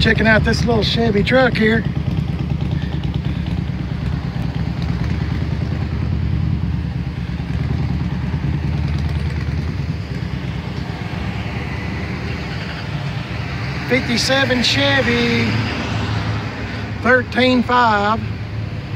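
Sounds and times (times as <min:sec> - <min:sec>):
vehicle engine idling: 0:00.0 - 0:18.9.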